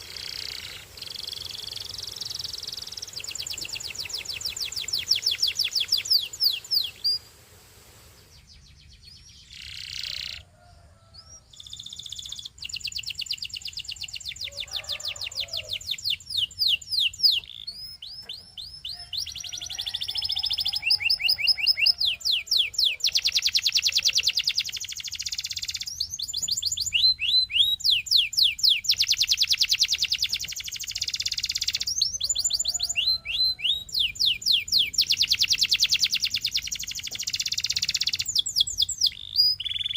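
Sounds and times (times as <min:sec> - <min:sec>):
canary singing trills: 0:00.0 - 0:07.3, 0:08.3 - 0:39.9.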